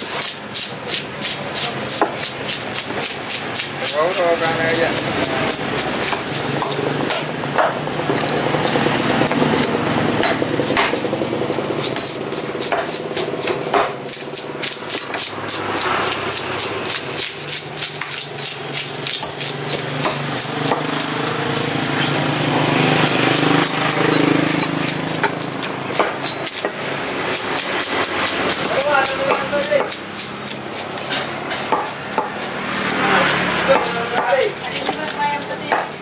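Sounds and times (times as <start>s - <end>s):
engine hum: 0.0s - 36.0s
knife chopping on wooden block: 0.0s - 36.0s.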